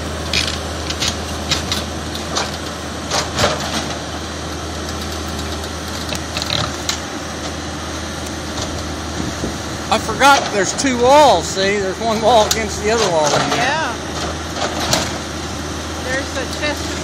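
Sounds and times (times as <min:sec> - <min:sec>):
backhoe engine running: 0:00.0 - 0:17.0.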